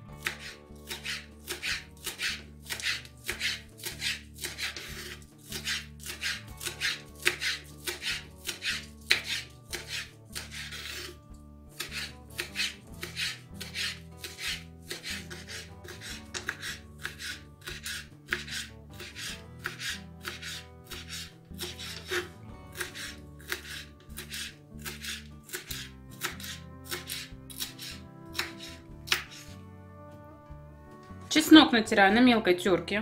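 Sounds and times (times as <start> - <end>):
knife chopping on wooden board: 0.2 - 29.6.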